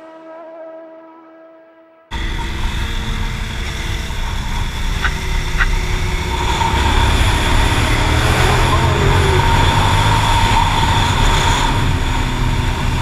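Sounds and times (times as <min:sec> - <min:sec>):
motorcycle engine running: 0:02.1 - 0:13.0
wind rumble on microphone: 0:02.1 - 0:13.0.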